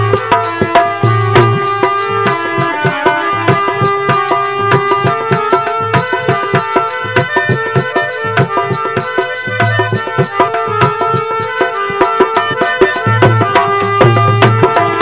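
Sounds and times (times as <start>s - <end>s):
brisk drum strokes: 0.0s - 15.0s.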